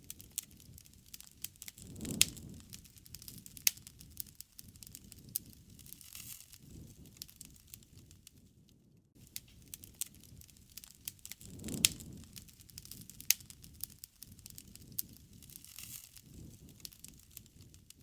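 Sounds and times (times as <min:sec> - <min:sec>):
campfire crackling and popping: 0:00.0 - 0:08.6, 0:09.2 - 0:18.0
low rumble of burning: 0:00.0 - 0:18.0.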